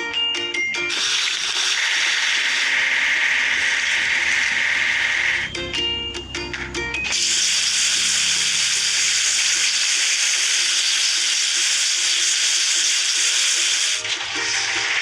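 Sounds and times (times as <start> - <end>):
faint background music: 0.0 - 15.0
water spraying hiss: 0.9 - 15.0.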